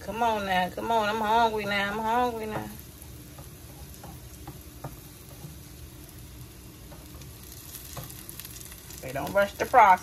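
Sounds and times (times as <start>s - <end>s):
batter sizzling in a frying pan: 0.0s - 10.0s.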